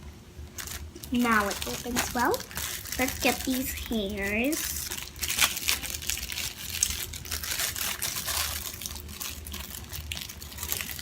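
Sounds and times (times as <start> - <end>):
plastic packaging crinkling: 0.4 - 11.0.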